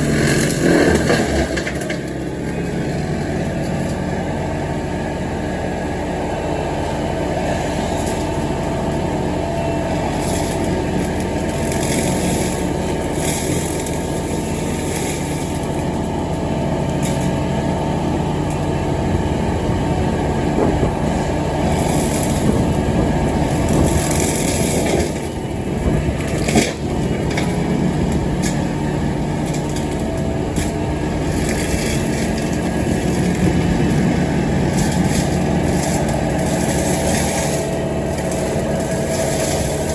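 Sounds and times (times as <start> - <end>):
tractor engine mowing grass: 0.0 - 39.9.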